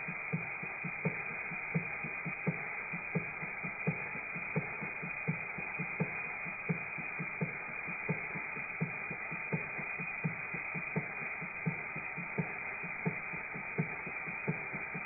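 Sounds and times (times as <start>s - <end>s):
model steam engine hissing and puffing: 0.0s - 15.0s.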